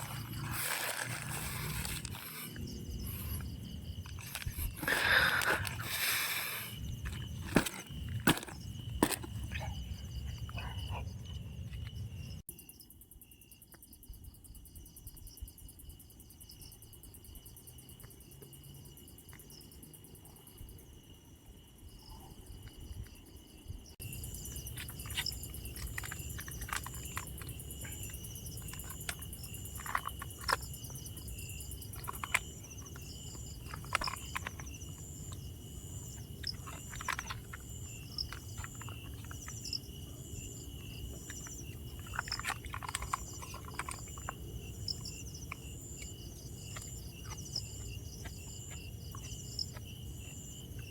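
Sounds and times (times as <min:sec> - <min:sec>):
insects chirping in chorus: 0:00.0 - 0:50.9.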